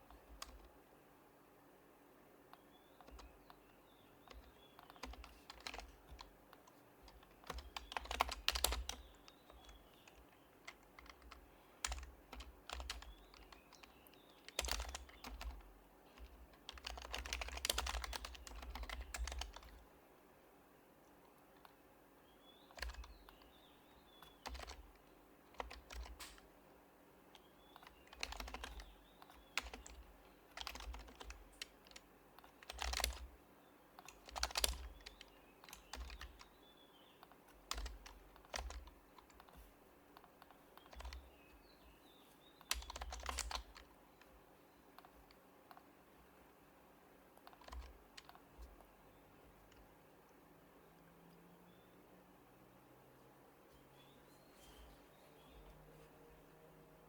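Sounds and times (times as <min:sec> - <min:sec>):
quiet keyboard typing: 0:00.0 - 0:00.8, 0:02.4 - 0:20.0, 0:21.0 - 0:21.8, 0:22.6 - 0:26.6, 0:27.2 - 0:41.8, 0:42.6 - 0:51.1.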